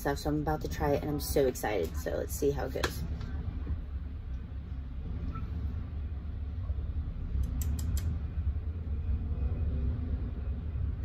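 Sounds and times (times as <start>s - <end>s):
vehicle cabin rumble: 0.0s - 11.0s.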